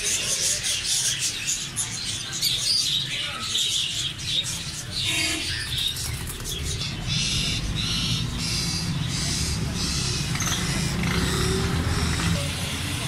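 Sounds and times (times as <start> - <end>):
repeated bird call: 0.0 - 12.4
caged birds calling: 0.0 - 13.0.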